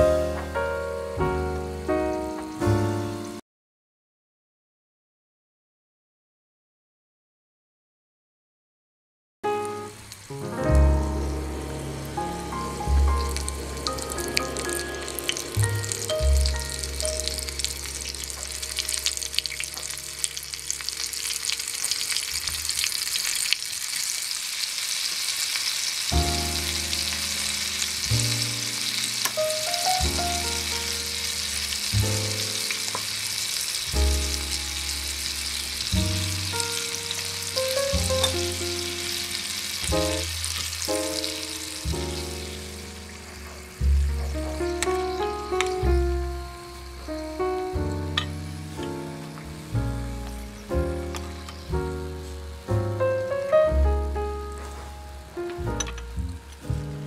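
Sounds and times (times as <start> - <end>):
chicken deep-frying in oil: 0.0 - 3.4, 9.5 - 57.0.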